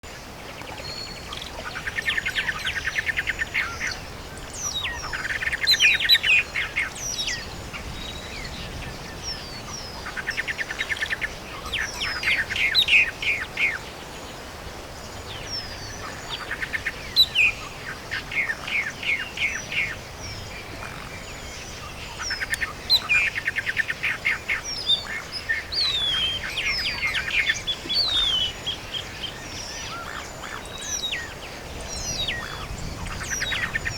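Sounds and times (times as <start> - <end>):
songbird trilling song: 0.1 - 14.4, 15.0 - 33.9.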